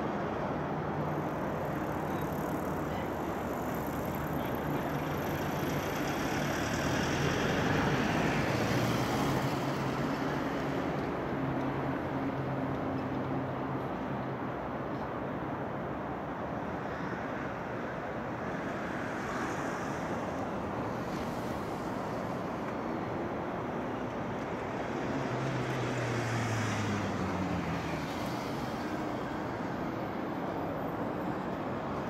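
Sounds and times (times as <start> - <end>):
city traffic noise: 0.0 - 32.0.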